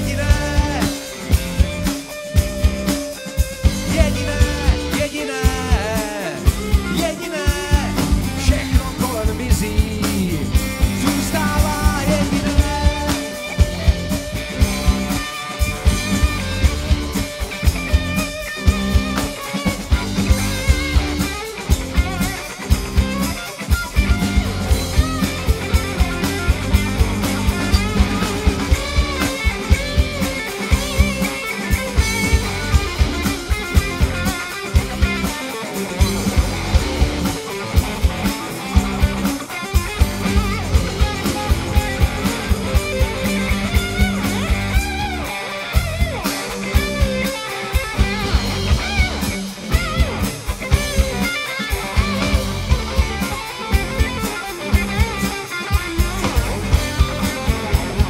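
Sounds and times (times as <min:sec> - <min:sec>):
bass guitar: 0:00.0 - 0:58.0
drum beat: 0:00.0 - 0:58.0
electric guitar solo: 0:00.0 - 0:58.0.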